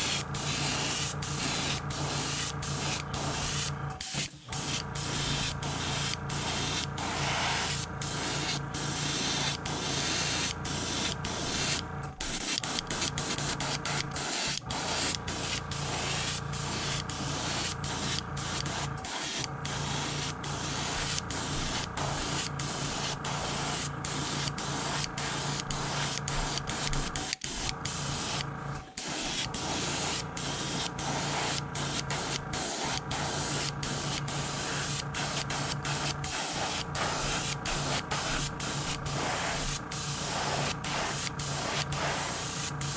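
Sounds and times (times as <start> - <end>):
airbrush hissing: 0.0 - 42.9.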